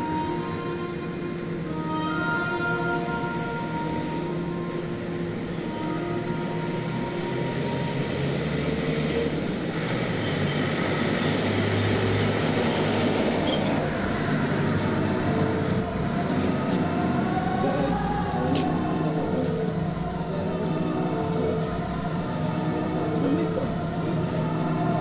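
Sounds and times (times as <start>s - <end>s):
ambient rumbling drone music: 0.0s - 25.0s.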